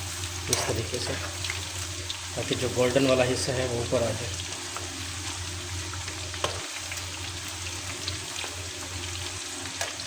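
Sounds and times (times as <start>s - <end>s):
oil sizzling: 0.0s - 10.0s.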